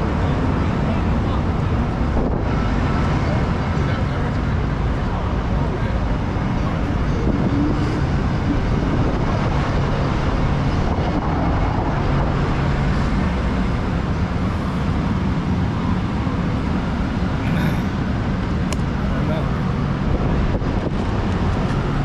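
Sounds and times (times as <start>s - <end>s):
low engine hum: 0.0s - 22.0s
street traffic: 0.0s - 22.0s.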